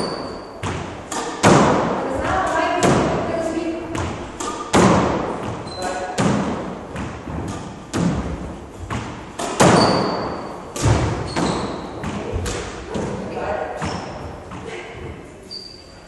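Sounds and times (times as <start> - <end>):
squash ball cracking with echo: 0.0 - 15.2.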